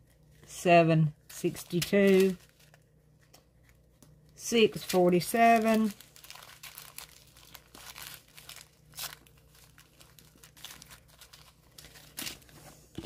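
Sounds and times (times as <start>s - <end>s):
plastic bags crinkling: 1.3s - 3.9s, 4.7s - 12.6s.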